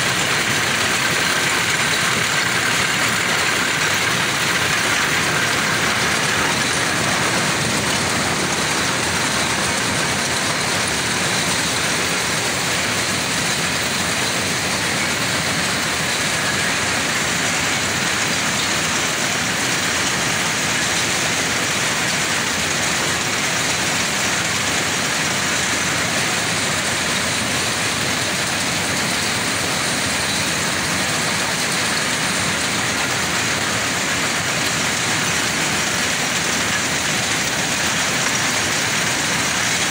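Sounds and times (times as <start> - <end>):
mill machinery running: 0.0 - 39.9.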